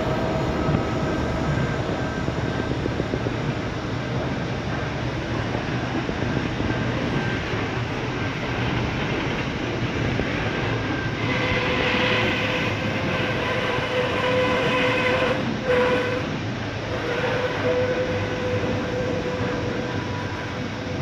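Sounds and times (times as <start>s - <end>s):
train wagons rumbling on rails: 0.0s - 21.0s.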